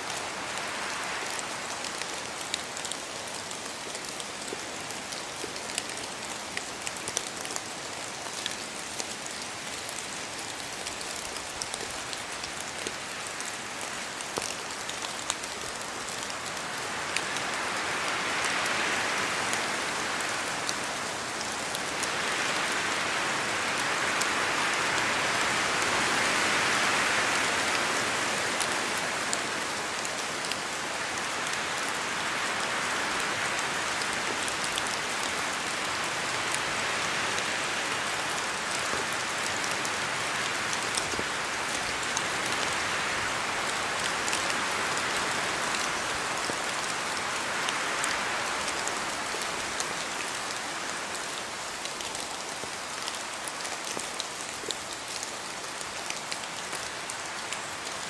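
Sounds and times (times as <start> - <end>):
rain drops on leaves: 0.0 - 58.0
wind gusts through trees: 0.0 - 58.0.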